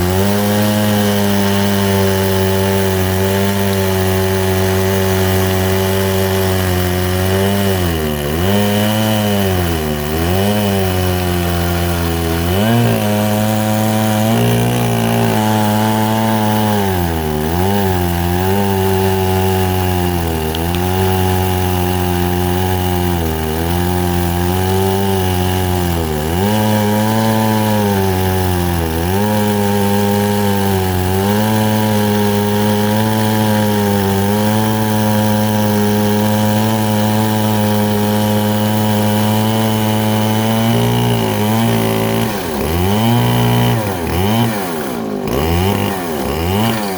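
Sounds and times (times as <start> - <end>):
chainsaw cutting log: 0.0 - 46.9.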